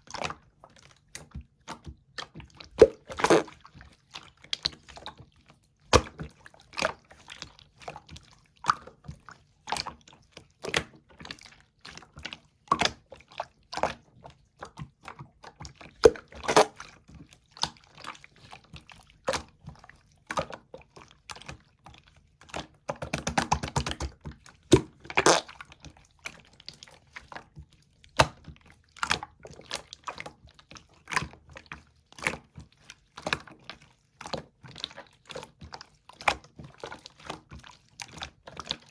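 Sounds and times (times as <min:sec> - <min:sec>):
slime squishing with wet pops: 0:00.0 - 0:38.9.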